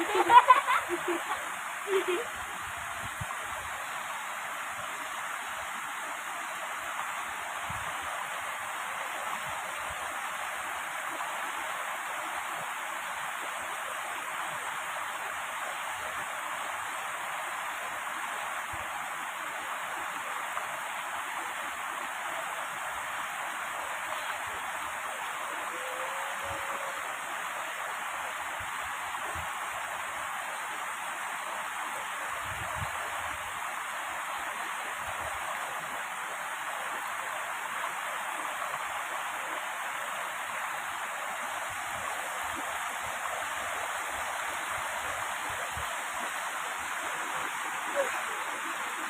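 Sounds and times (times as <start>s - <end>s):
stream rushing over boulders: 0.0s - 49.0s.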